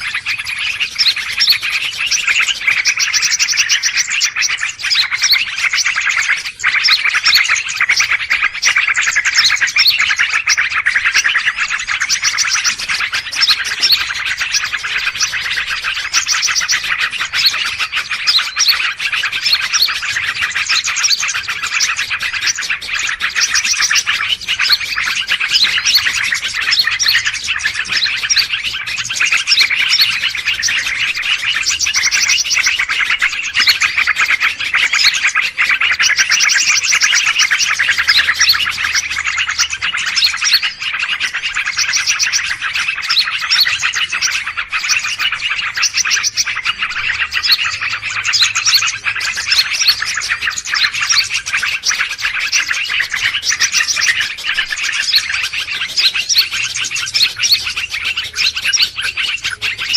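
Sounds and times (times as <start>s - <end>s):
small birds chirping and chattering: 0.0s - 59.9s.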